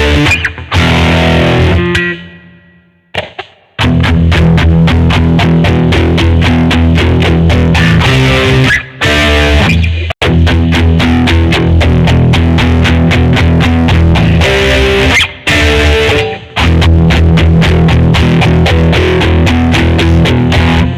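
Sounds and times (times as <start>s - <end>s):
distorted electric guitar riff: 0.0s - 20.9s.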